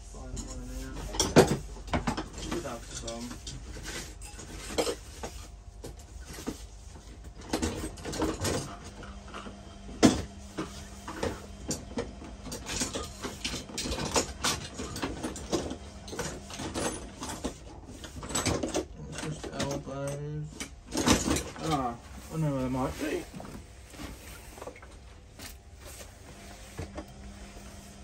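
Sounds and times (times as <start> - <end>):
plumbing fittings and tools rattling: 0.2 - 9.0, 10.1 - 27.2.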